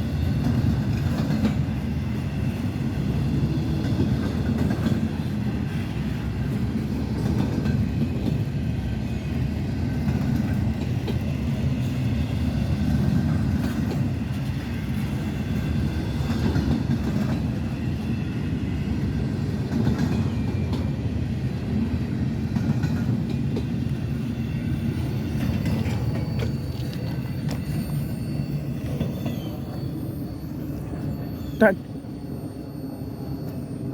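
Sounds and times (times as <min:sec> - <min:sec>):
train wheels rumbling on rails: 0:00.0 - 0:33.9
rail joints clicking: 0:00.2 - 0:02.6, 0:03.4 - 0:08.9, 0:09.7 - 0:18.1, 0:18.9 - 0:31.3.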